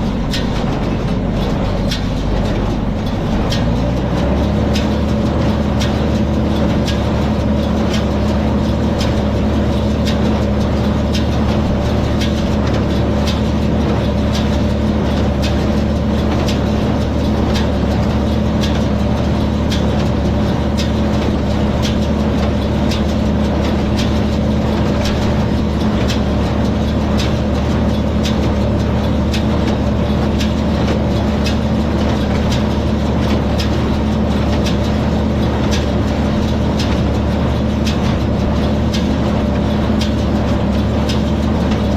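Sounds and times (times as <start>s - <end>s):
tractor engine running under load: 0.0s - 41.9s.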